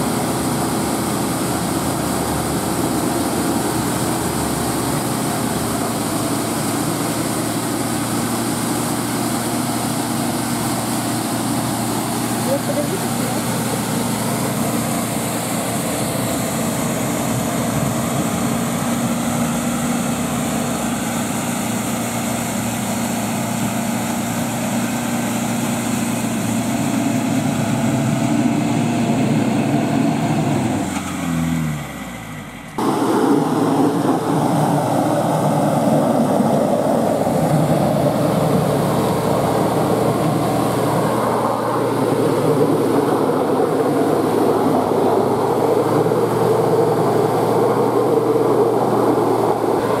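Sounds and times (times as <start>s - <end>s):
van engine running under load: 0.0s - 50.0s.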